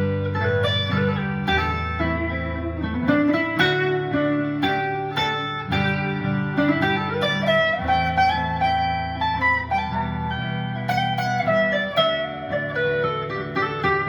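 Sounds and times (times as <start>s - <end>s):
guitar picking a melody: 0.0s - 14.0s.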